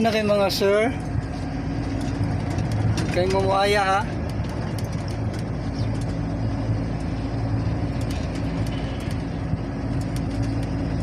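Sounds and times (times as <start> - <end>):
truck engine humming: 0.0 - 11.0
faint clicks and rattles: 1.1 - 11.0.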